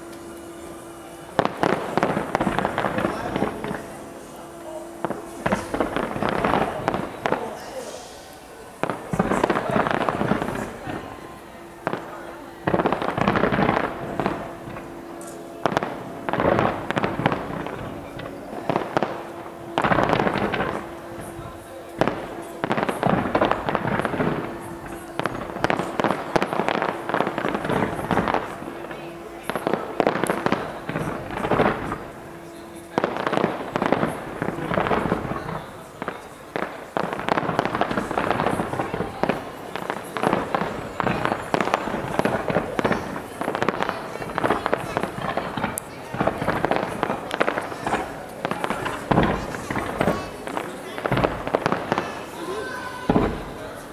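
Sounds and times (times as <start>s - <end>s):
firework bangs: 0.0s - 53.9s
firework crackling: 0.0s - 53.9s.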